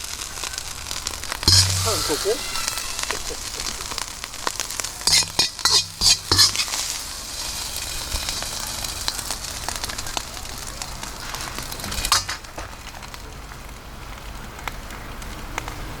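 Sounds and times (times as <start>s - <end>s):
campfire crackling: 0.0s - 16.0s
rice sizzling in a wok: 0.0s - 16.0s.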